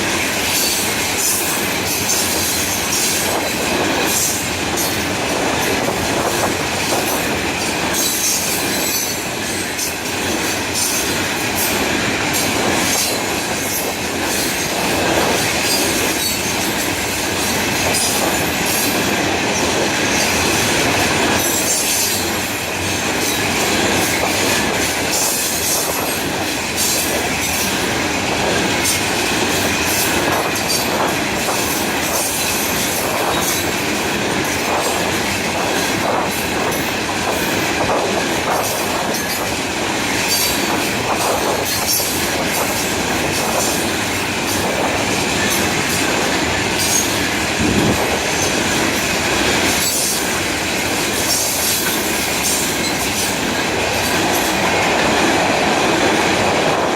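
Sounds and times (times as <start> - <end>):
steel wheels rumbling on rail: 0.0 - 56.9.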